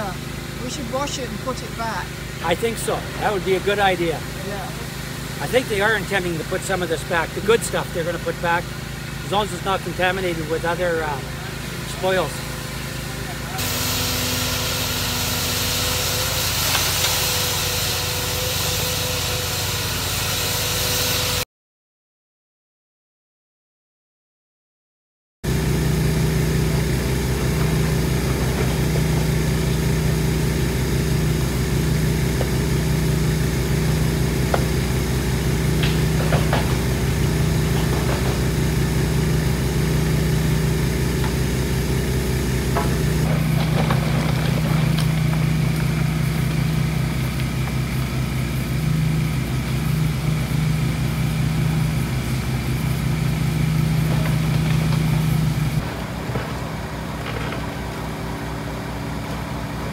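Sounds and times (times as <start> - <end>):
diesel excavator engine running: 0.0 - 21.4, 25.5 - 59.9.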